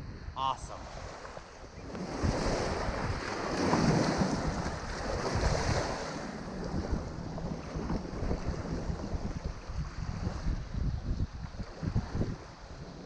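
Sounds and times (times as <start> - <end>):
gusty wind buffeting microphone: 0.0 - 13.0
lake water lapping at shore: 0.7 - 13.0.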